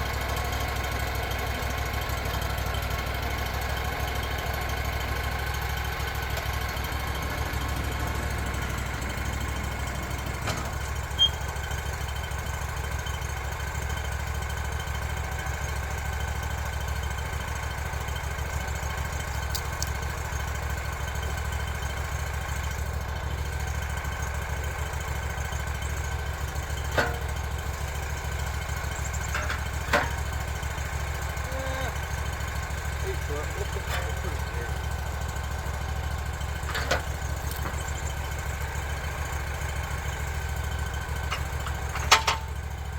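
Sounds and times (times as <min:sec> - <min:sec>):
engine idling: 0:00.0 - 0:42.9.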